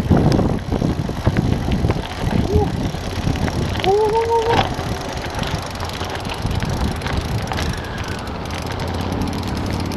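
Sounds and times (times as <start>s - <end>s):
bike rattling: 0.0s - 9.9s
bike tyres on gravel: 0.0s - 9.9s
wind on microphone: 0.0s - 9.9s.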